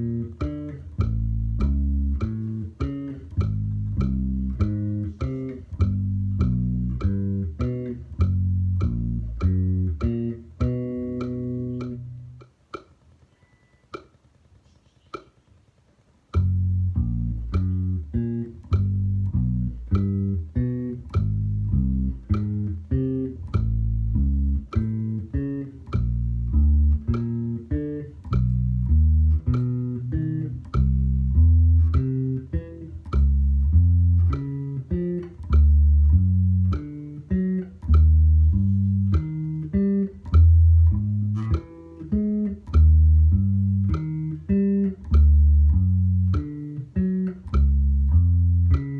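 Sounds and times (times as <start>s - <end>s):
bass guitar notes plucked: 0.0s - 13.2s, 16.3s - 48.9s
metronome clicks: 0.0s - 48.9s.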